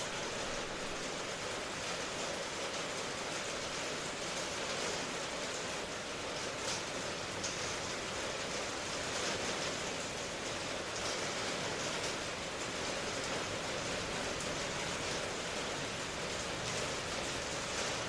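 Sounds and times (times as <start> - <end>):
raindrops tapping: 0.0 - 18.0
steady rain hiss: 0.0 - 18.0.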